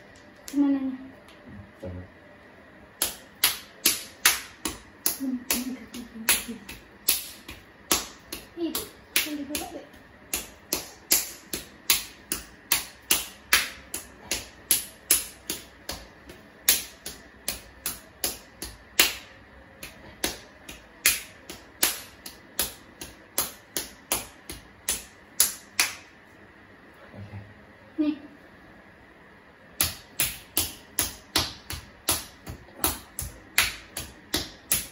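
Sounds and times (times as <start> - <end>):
fists punching bare skin: 3.0 - 26.1, 29.8 - 34.9.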